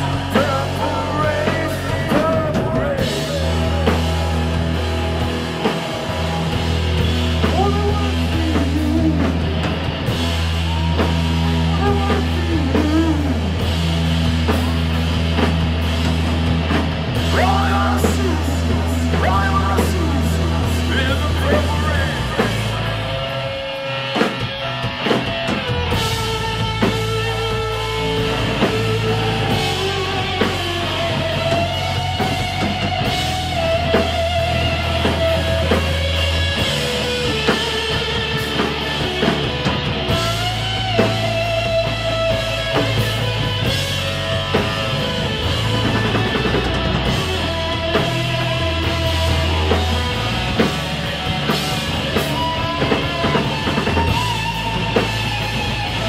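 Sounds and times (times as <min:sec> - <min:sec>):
electric guitar lead with bent notes: 0:00.0 - 0:56.0
rock band playing live: 0:00.0 - 0:56.0.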